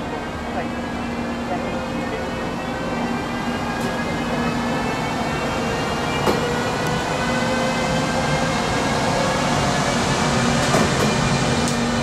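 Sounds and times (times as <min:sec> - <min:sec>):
electric locomotive drive whining: 0:00.0 - 0:12.0.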